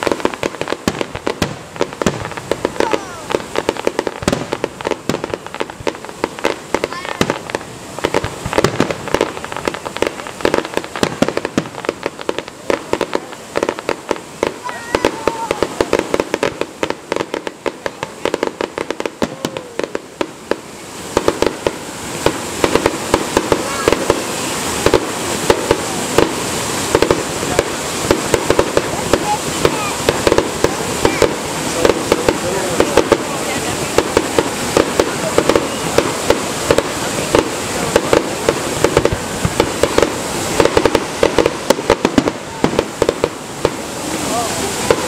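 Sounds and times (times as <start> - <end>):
fireworks bangs and crackles: 0.0 - 45.0
fireworks hiss: 0.0 - 45.0.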